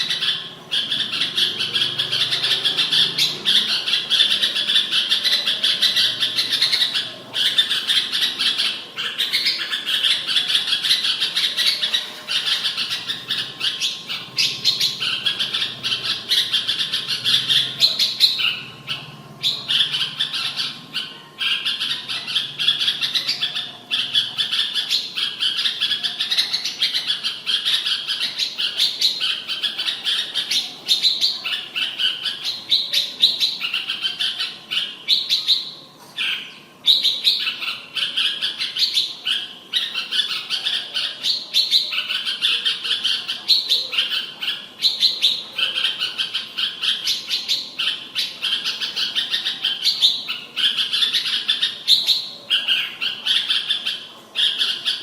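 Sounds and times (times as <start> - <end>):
bird chattering song: 0.0 - 55.0.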